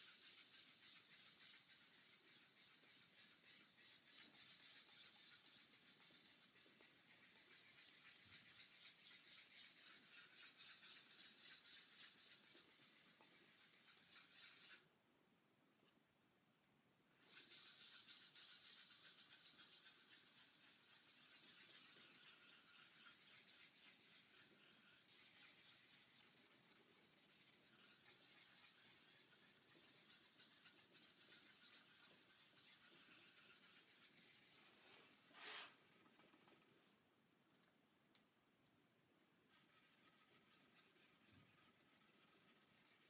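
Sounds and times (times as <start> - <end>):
sandpaper rubbing on wood: 0.0 - 14.8, 17.2 - 36.8, 39.6 - 43.0.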